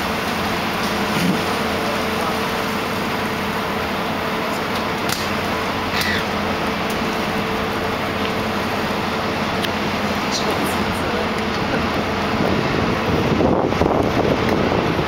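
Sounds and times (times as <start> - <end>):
boat engine running: 0.0 - 15.0
water: 0.0 - 15.0
wind: 0.0 - 15.0.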